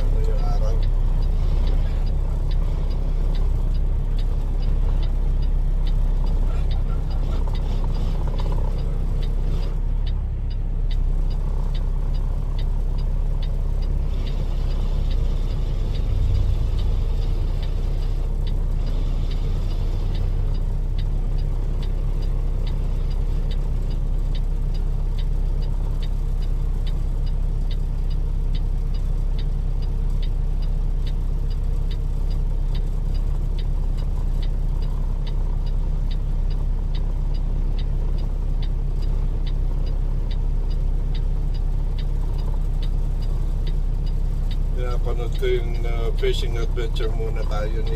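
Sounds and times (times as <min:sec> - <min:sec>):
light even ticking: 0:00.0 - 0:47.9
truck engine and road rumble: 0:00.0 - 0:47.9.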